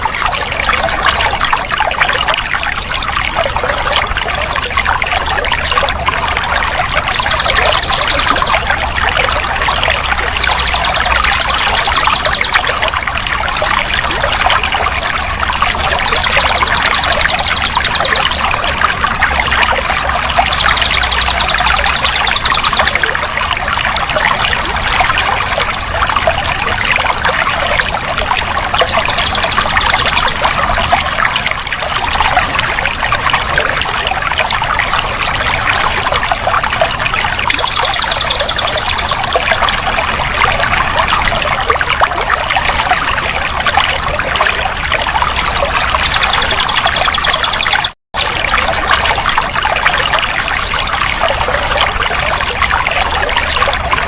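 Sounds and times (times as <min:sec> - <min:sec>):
water running and trickling: 0:00.0 - 0:54.0.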